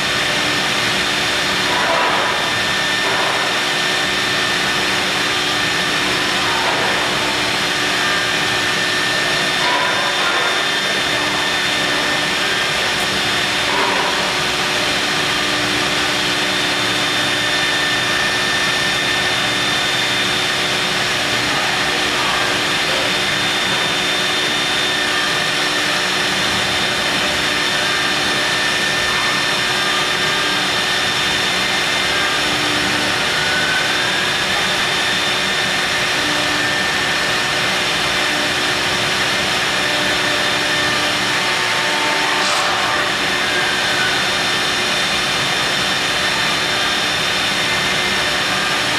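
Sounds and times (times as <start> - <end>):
milling machine cutting stone: 0.0 - 48.9.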